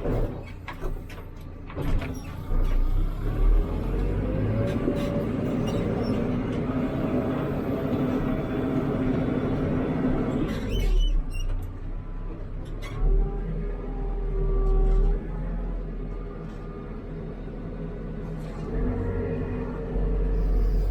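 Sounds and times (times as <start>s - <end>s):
diesel engine running under work: 0.0s - 20.9s.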